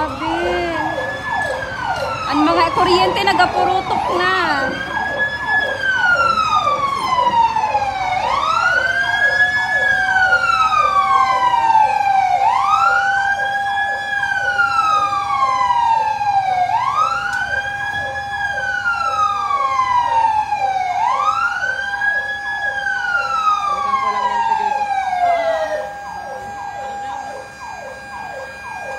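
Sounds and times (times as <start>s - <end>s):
fast pulsing siren tone: 0.0s - 28.9s
fire truck siren wailing: 0.0s - 28.9s.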